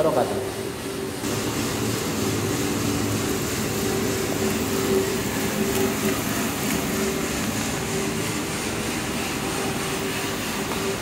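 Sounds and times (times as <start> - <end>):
steady machine hum: 0.0 - 11.0
stirring arms sweeping coffee beans: 1.2 - 11.0.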